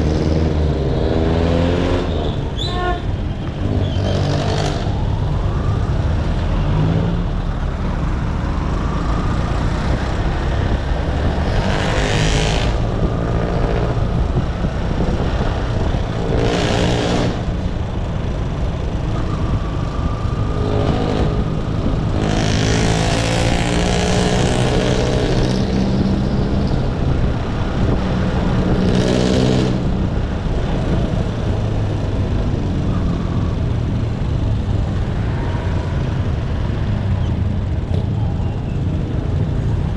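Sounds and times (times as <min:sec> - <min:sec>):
road and wind noise: 0:00.0 - 0:39.9
vehicles passing by: 0:00.0 - 0:39.9.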